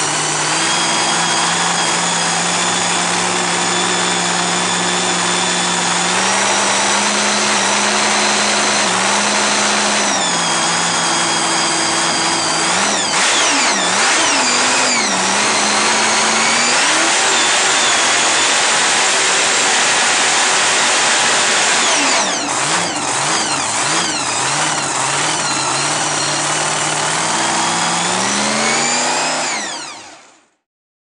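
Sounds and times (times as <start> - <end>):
racing car engine revving: 0.0 - 30.3.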